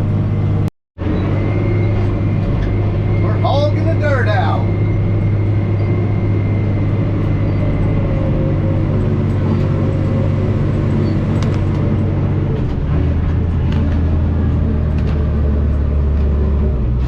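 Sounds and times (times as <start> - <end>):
bulldozer diesel engine: 0.0 - 17.0.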